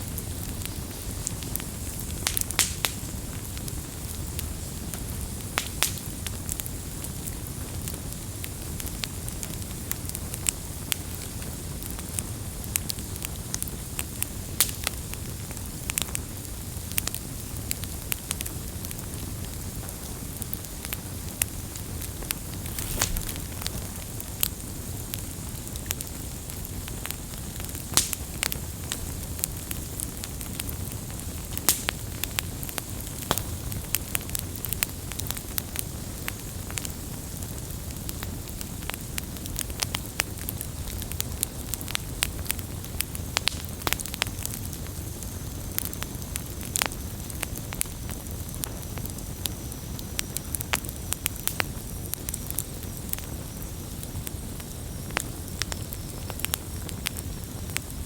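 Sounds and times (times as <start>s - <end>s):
burning wood crackling and popping: 0.0s - 58.0s
campfire flames rumbling: 0.0s - 58.0s.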